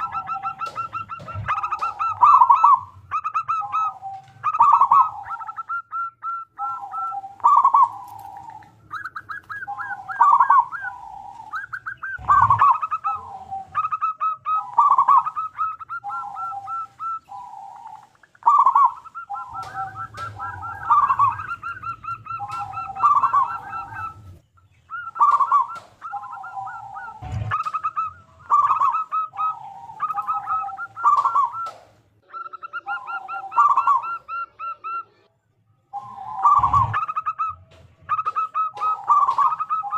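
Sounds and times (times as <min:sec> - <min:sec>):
dove cooing song: 0:00.0 - 0:35.3, 0:35.9 - 0:39.9.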